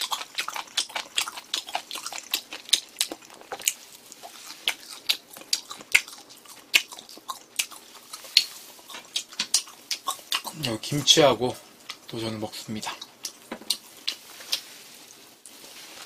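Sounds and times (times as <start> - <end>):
man chewing food: 0.0 - 16.0.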